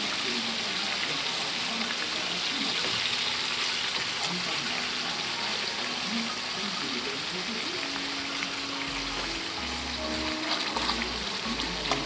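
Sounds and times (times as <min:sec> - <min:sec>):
pork sizzling in hot oil: 0:00.0 - 0:12.0.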